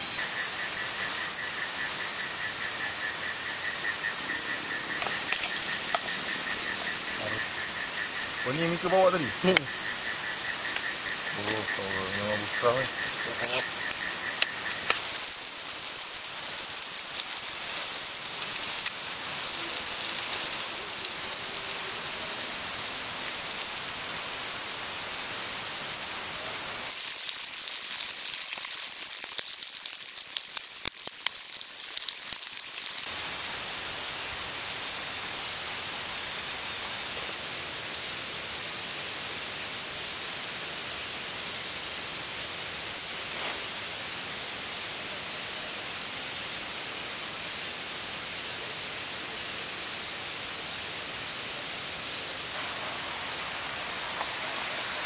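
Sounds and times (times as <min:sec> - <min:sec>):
fish sizzling in a pan: 0:00.0 - 0:34.7, 0:35.5 - 0:49.1, 0:52.4 - 0:55.0
cricket chirping: 0:00.0 - 0:55.0.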